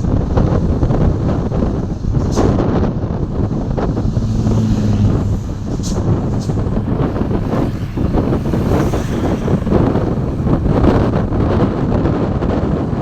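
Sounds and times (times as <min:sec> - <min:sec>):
road vehicle rumble: 0:00.0 - 0:13.0
wind buffeting microphone: 0:00.0 - 0:13.0.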